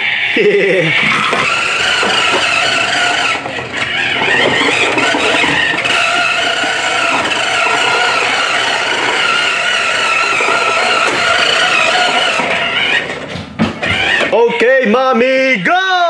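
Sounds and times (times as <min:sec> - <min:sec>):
toy car motor whirring: 0:00.1 - 0:14.6.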